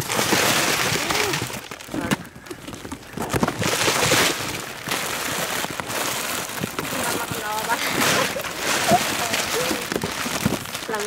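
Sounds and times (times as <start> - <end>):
plastic packets rustling and crinkling: 0.0 - 11.0.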